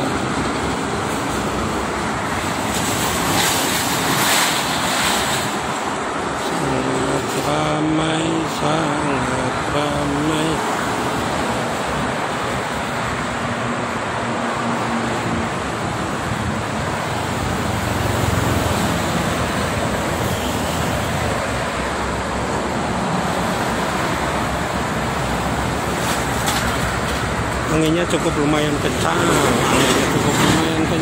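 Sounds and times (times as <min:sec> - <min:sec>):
highway traffic: 0:00.0 - 0:31.0.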